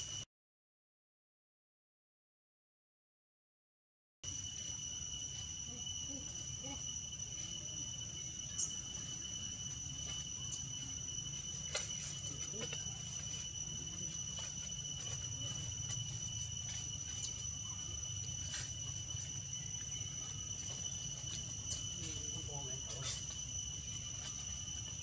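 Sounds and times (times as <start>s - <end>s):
high-pitched insect drone: 0.0s - 0.3s, 4.2s - 25.0s.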